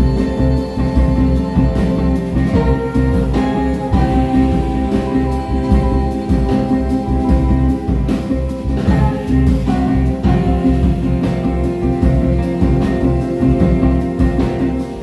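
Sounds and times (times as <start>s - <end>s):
drums: 0.0s - 15.0s
electric guitar: 0.0s - 15.0s.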